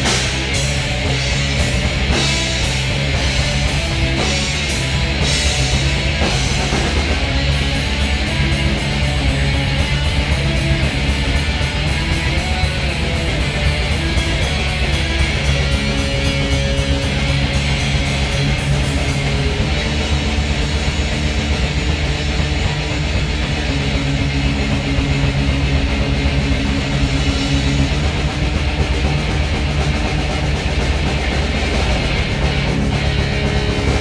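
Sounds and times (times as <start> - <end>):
bass guitar: 0.0 - 34.0
electric guitar: 0.0 - 34.0.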